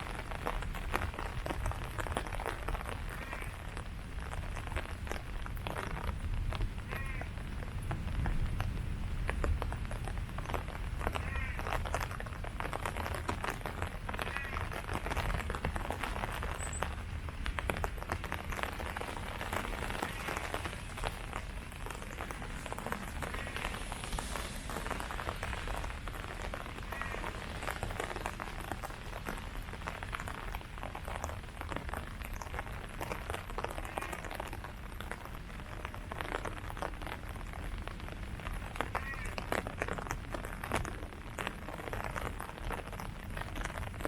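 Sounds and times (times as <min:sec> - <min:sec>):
rain falling on leaves: 0:00.0 - 0:44.0.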